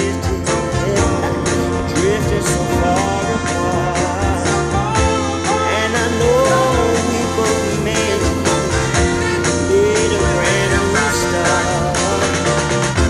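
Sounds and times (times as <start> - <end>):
song with singing and beat: 0.0 - 13.0.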